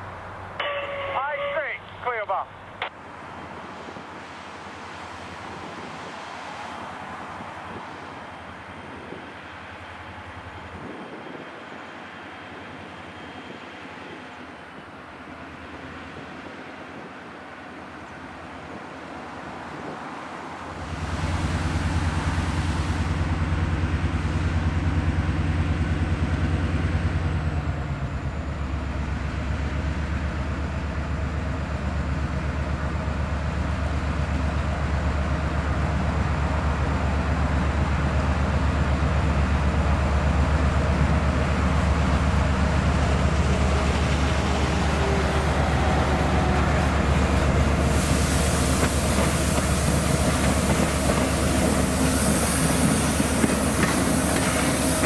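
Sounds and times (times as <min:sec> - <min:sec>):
diesel locomotive engine drone: 0:00.0 - 0:55.0
wheel and rail noise: 0:02.6 - 0:55.0.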